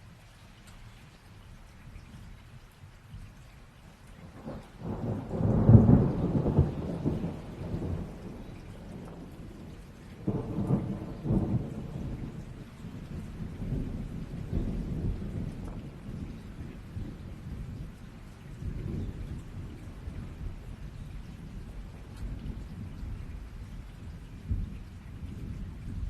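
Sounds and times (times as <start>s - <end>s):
rain falling: 0.0s - 26.0s
rolling thunder: 4.3s - 26.0s.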